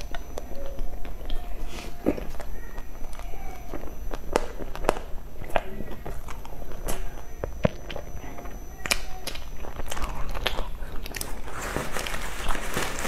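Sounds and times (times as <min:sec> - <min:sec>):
wet chewing mouth clicks: 0:00.0 - 0:11.5.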